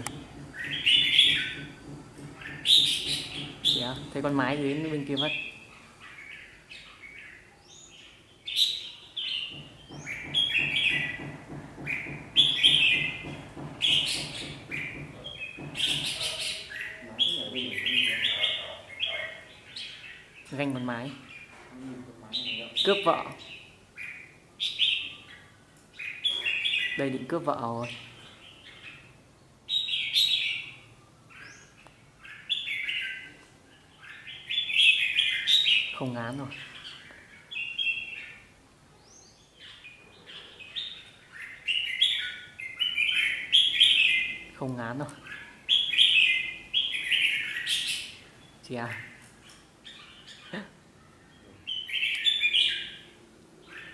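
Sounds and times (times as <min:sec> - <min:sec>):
birds chirping and warbling: 0:00.0 - 0:53.9.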